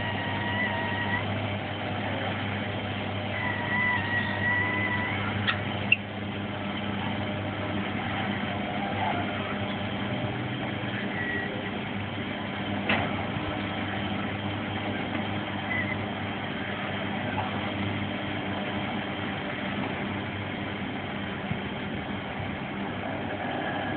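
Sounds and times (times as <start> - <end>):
engine idling: 0.0 - 23.9.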